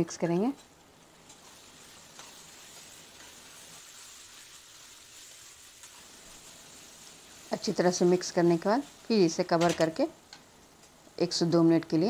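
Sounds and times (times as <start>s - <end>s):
onions sizzling in oil: 0.0s - 12.0s
spatula scraping pan: 0.2s - 10.0s.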